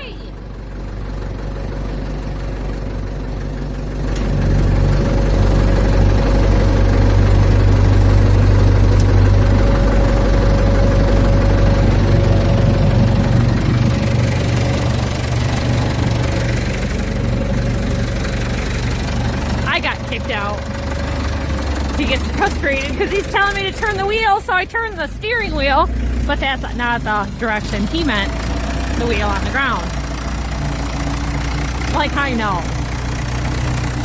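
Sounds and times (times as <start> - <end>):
backhoe engine running: 0.0 - 34.0.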